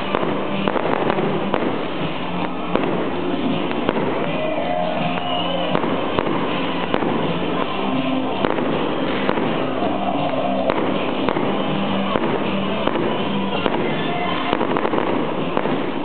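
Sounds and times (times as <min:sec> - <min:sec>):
fireworks bangs and crackles: 0:00.0 - 0:16.0
loud music with held notes: 0:00.0 - 0:16.0.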